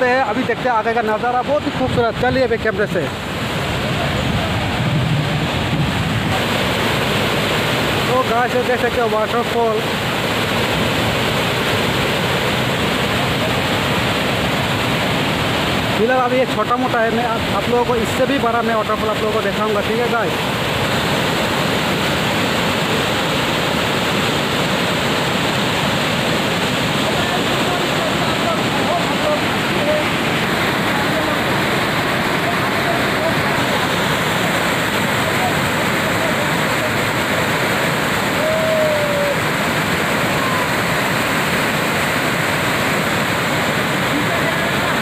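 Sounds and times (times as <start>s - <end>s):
waterfall crashing over rocks: 0.0s - 45.0s.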